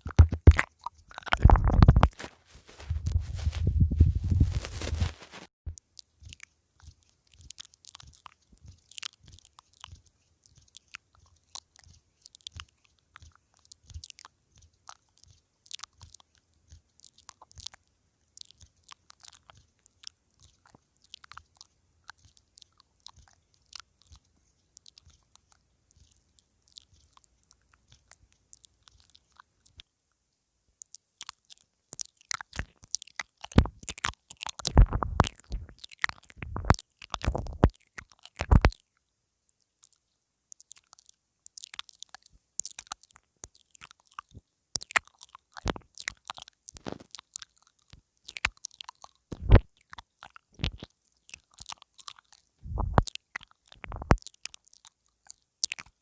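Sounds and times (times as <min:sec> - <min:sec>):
lips and teeth clicking on microphone: 0:00.0 - 0:29.9, 0:30.8 - 0:56.0.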